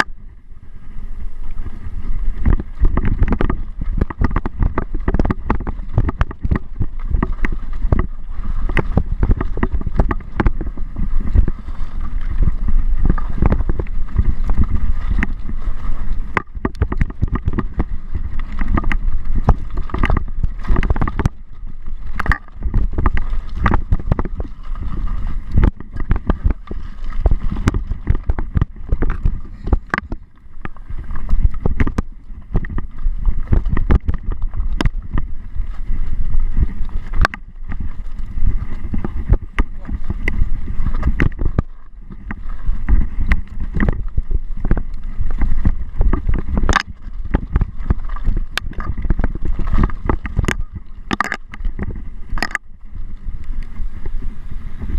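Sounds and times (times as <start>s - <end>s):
wind buffeting microphone: 0.0s - 54.9s
mountain bike rattling and knocking: 2.4s - 52.6s.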